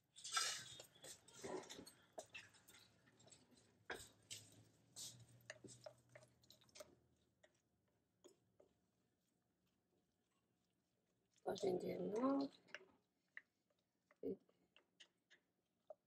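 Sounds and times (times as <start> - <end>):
hand mixing vegetables squelching: 0.0 - 16.0.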